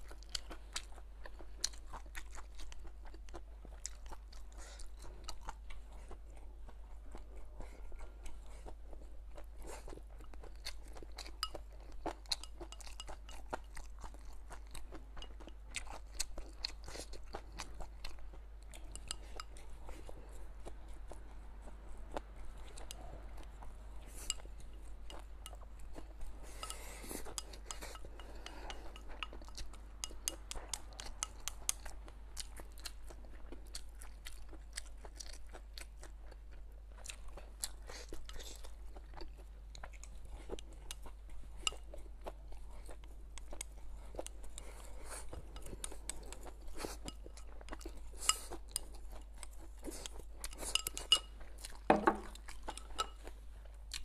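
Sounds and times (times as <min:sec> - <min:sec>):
close chewing crunches: 0:00.0 - 0:54.0.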